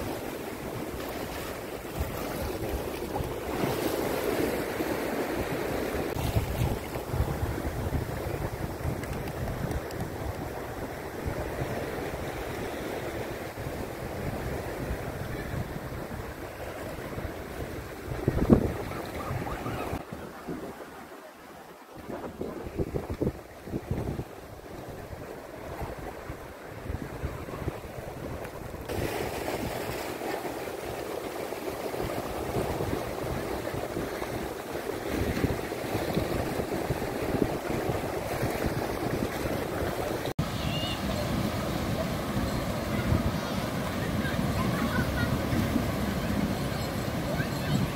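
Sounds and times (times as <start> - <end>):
small waves lapping: 0.0 - 47.9
wind buffeting microphone: 5.2 - 20.8, 22.0 - 30.1, 31.7 - 47.9.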